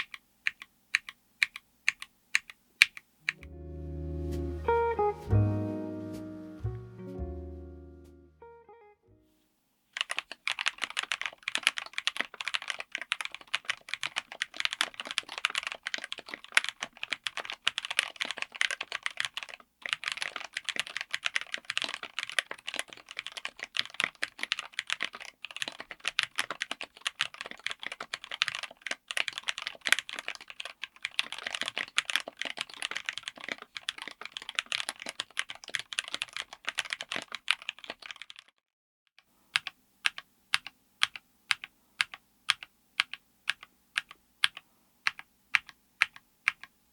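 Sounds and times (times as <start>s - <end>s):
mechanical keyboard typing: 0.0s - 3.4s, 10.0s - 38.5s, 39.5s - 46.7s.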